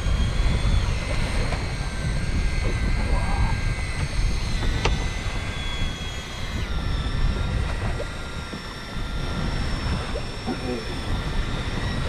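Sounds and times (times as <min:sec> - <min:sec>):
outboard motor running: 0:00.0 - 0:12.0
wind on microphone: 0:00.0 - 0:12.0.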